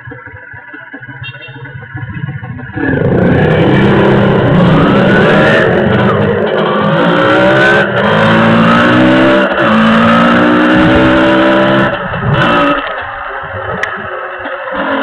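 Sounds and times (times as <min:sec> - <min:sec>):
two-stroke motorcycle accelerating: 0:00.0 - 0:15.0.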